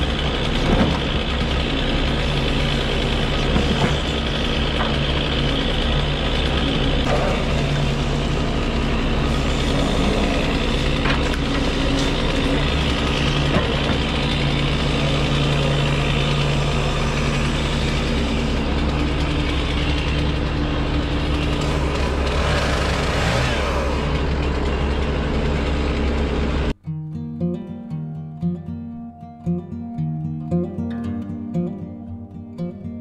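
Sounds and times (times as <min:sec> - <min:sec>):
truck engine running: 0:00.0 - 0:26.8.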